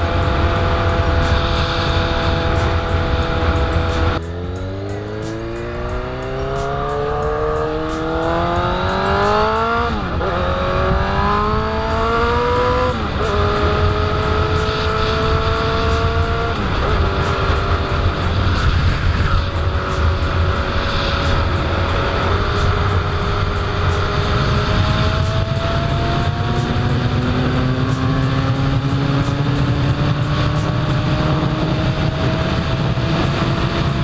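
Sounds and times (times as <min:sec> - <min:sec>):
motorcycle engine revving and shifting: 0:00.0 - 0:34.0
wind noise: 0:05.2 - 0:34.0.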